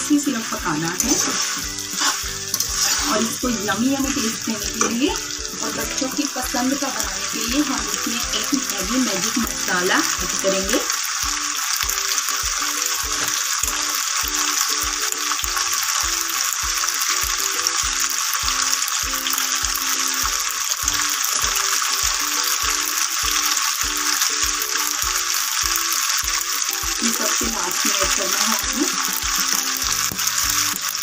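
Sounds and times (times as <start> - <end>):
background music with a beat: 0.0 - 31.0
food sizzling in a pan: 0.0 - 31.0.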